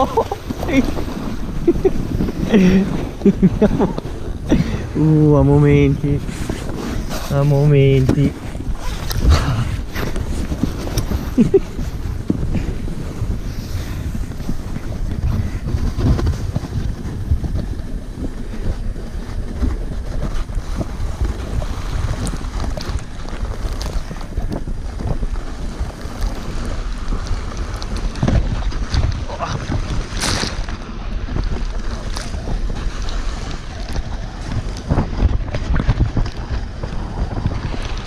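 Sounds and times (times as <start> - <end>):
toboggan sliding over snow: 0.0 - 38.0
wind buffeting microphone: 0.0 - 38.0.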